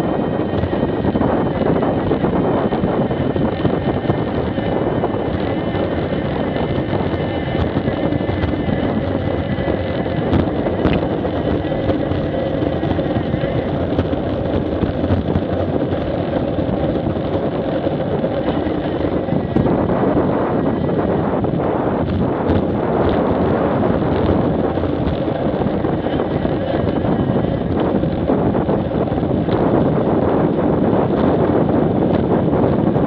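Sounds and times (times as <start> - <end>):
motorcycle engine: 0.0 - 33.0
wind noise on microphone: 0.0 - 33.0.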